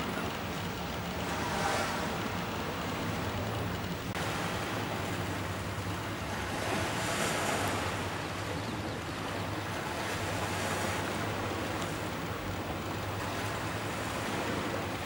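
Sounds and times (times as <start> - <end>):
low steady hum: 0.0 - 15.0
sea water: 0.0 - 15.0
wind: 0.0 - 15.0.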